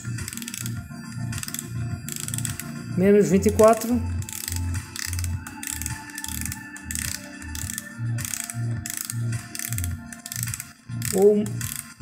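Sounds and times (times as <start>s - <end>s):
music with steady bass beat: 0.0s - 12.0s.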